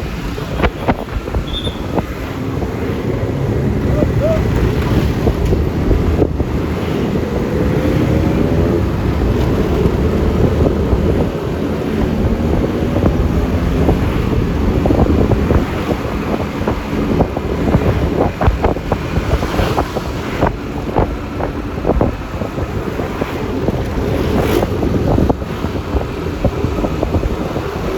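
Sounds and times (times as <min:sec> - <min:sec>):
road noise: 0:00.0 - 0:27.9
wind buffeting microphone: 0:00.0 - 0:27.9.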